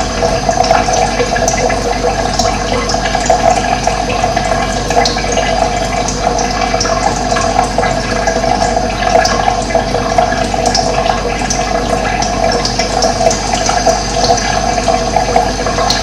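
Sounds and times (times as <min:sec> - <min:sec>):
running water splashing: 0:00.0 - 0:16.0.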